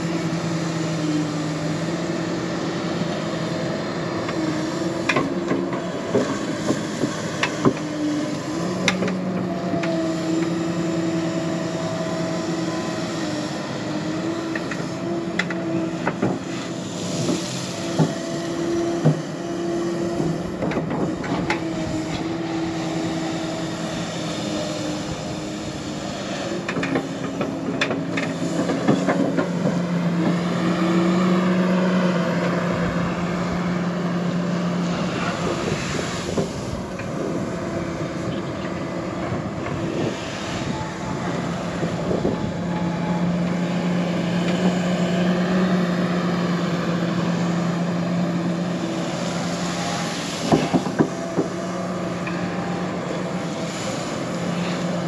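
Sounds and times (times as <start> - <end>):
excavator engine and hydraulics droning: 0.0 - 55.0.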